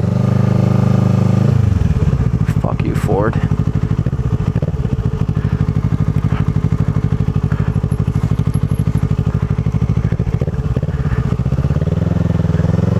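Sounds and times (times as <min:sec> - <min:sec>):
motorcycle engine at low revs: 0:00.0 - 0:12.9.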